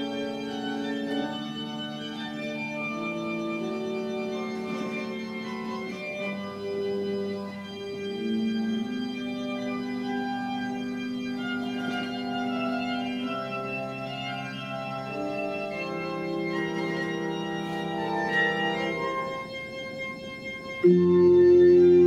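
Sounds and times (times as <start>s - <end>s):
pipe organ playing: 0.0s - 22.0s.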